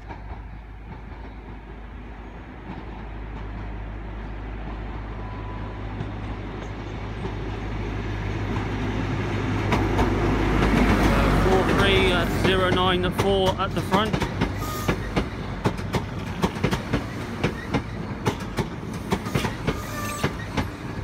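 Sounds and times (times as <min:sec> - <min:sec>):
diesel train approaching: 0:00.0 - 0:21.0.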